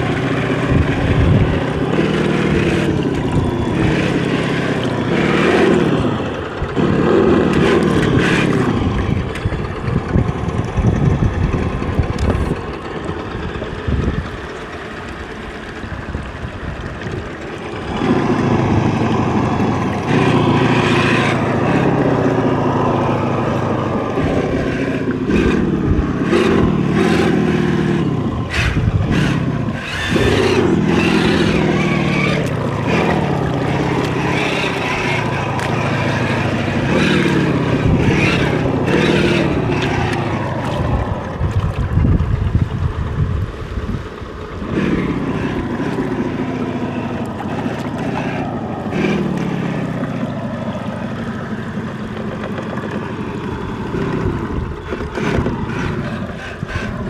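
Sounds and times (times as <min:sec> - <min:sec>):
electric motor whining: 0:00.0 - 0:15.8, 0:16.5 - 0:43.2, 0:44.6 - 0:57.0
wind: 0:00.0 - 0:57.0.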